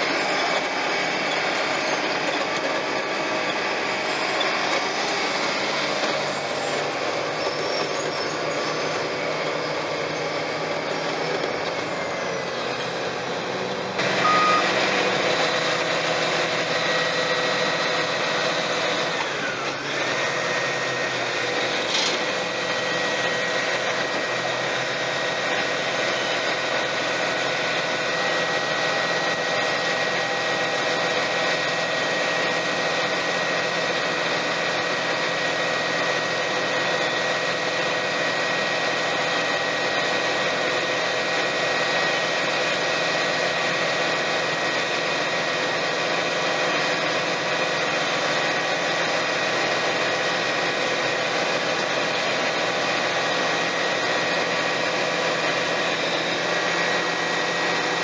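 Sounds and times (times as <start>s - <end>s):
asphalt paver engine: 0.0s - 58.0s.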